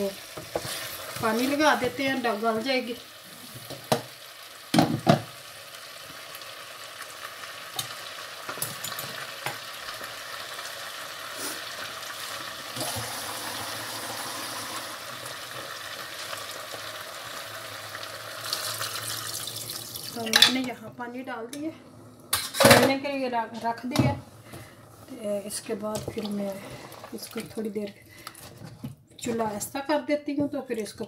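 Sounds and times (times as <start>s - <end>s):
potatoes sizzling in a pot: 0.0s - 21.7s, 24.6s - 27.9s.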